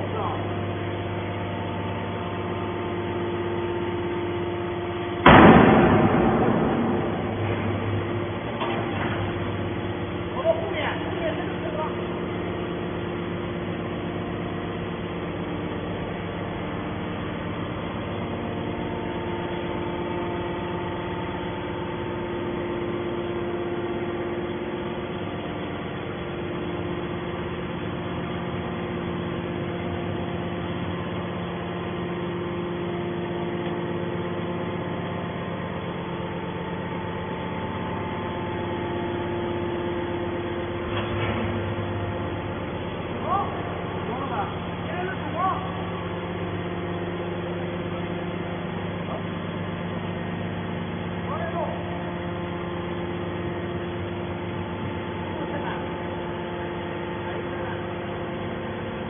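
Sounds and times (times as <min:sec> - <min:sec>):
hydraulic power unit humming: 0:00.0 - 0:59.0.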